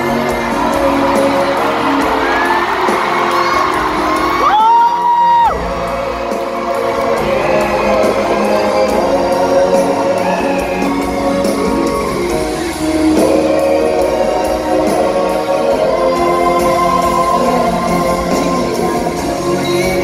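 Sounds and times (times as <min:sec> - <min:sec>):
crowd whooping and singing along: 0:00.0 - 0:20.0
live pop ballad: 0:00.0 - 0:20.0.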